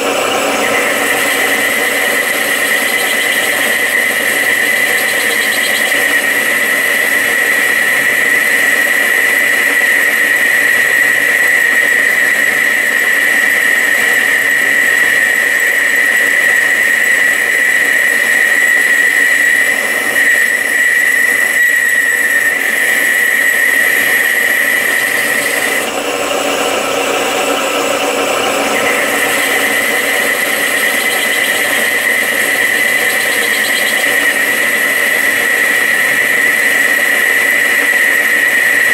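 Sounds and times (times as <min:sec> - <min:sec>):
high-pitched squeal: 0:00.0 - 0:38.9
metal lathe running: 0:00.0 - 0:38.9.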